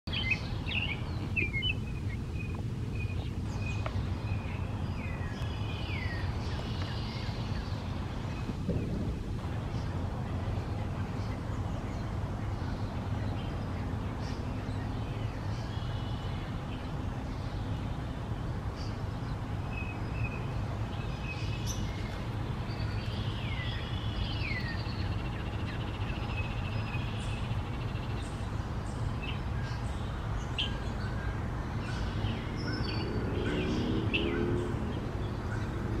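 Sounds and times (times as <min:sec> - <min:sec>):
steady low rumble: 0:00.1 - 0:36.0.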